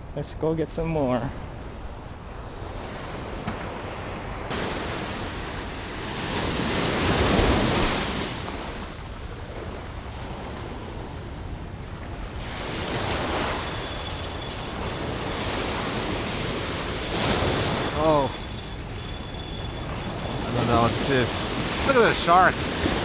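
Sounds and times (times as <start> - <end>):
ocean surf on sandy beach: 0.6 - 23.0
wind rumbling on microphone: 1.3 - 23.0.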